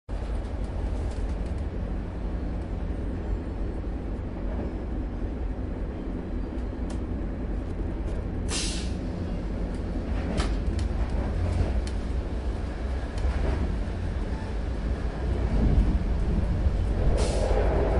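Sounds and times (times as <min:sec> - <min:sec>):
train carriage rumble: 0:00.1 - 0:17.9.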